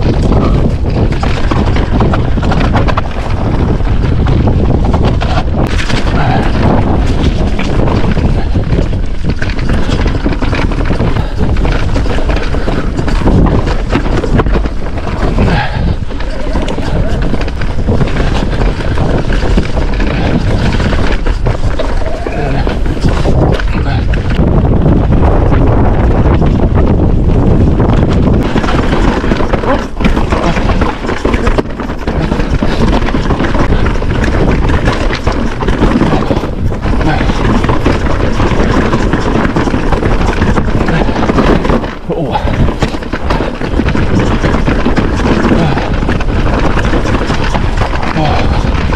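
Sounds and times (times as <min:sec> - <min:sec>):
bike knocks and rattles: 0:00.0 - 0:48.9
tyres rushing on dirt: 0:00.0 - 0:48.9
wind buffeting microphone: 0:00.0 - 0:48.9.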